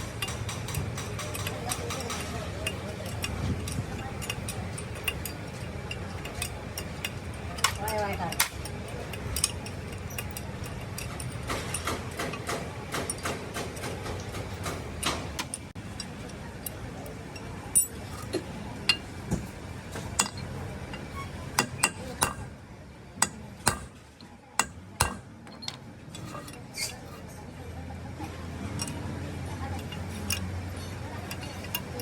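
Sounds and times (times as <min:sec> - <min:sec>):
metal tools clinking: 0:00.0 - 0:22.6, 0:23.2 - 0:27.4, 0:28.3 - 0:32.0.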